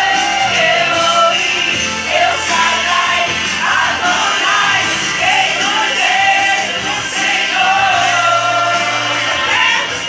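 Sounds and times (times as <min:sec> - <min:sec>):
women singing a hymn: 0:00.0 - 0:10.0.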